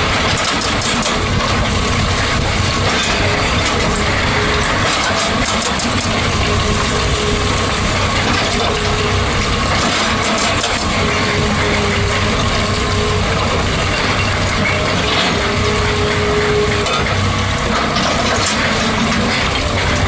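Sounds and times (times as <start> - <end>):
dense mechanical clatter: 0.0 - 20.0
excavator running under load: 0.0 - 20.0.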